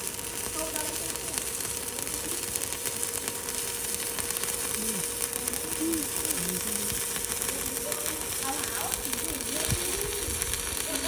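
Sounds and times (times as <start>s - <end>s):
welding arc crackling: 0.0s - 11.0s.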